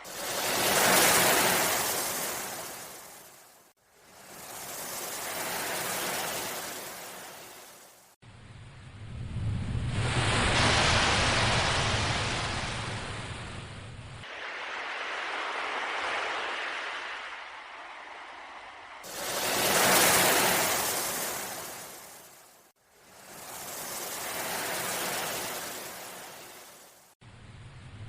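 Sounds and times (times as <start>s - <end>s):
ocean waves surging: 0.0s - 3.6s, 4.2s - 8.1s, 9.9s - 13.6s, 14.3s - 27.1s.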